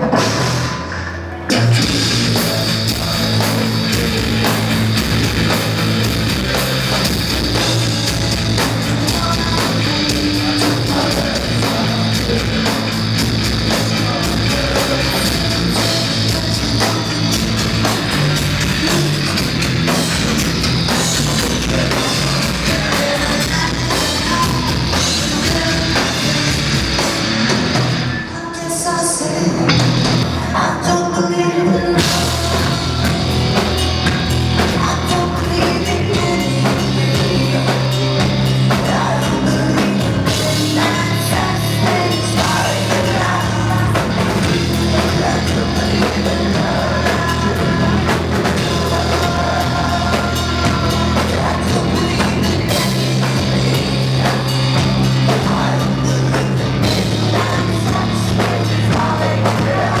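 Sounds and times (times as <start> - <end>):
drum kit: 0.0 - 28.3, 29.5 - 30.7, 32.0 - 60.0
rock band playing live: 0.0 - 60.0
person singing: 0.1 - 27.2, 28.2 - 60.0
heavy bass notes: 1.5 - 28.2, 29.6 - 30.6, 32.0 - 60.0.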